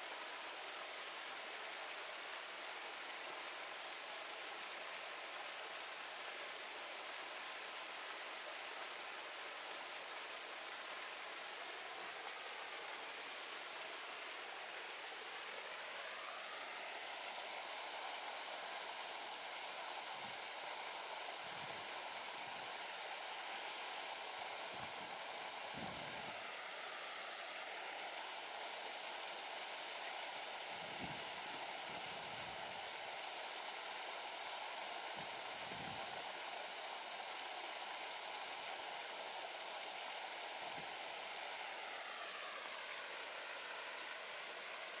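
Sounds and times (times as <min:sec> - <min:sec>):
waterfalls pouring into pond: 0:00.0 - 0:45.0.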